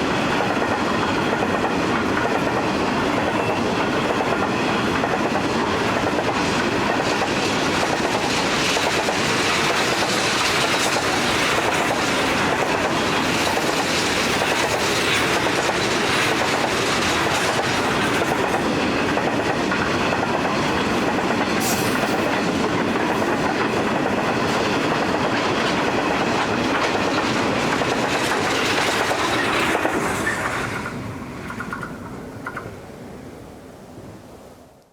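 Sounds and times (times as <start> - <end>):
wheels clicking over rail joints: 0.0 - 32.7
train wagons rolling past: 0.0 - 33.6.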